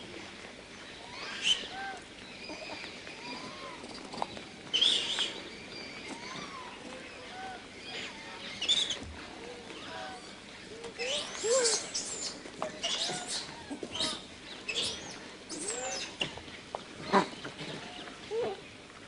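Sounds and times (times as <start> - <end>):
birds chirping and whistling: 0.8 - 18.1.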